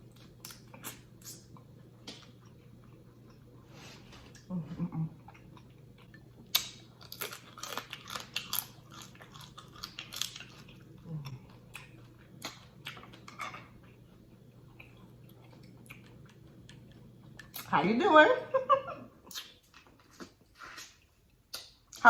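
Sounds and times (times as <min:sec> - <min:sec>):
crunching and chewing: 0:00.0 - 0:04.5, 0:05.1 - 0:17.7, 0:19.2 - 0:22.0.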